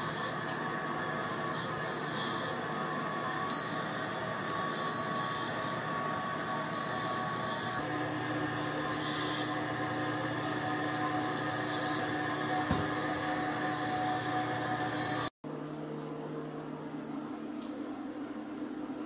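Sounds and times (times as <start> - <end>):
appliance electrical hum: 0.0 - 19.0.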